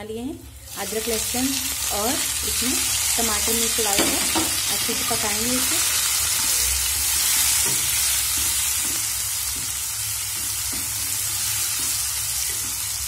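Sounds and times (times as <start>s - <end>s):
vegetables sizzling in oil: 0.4s - 13.0s.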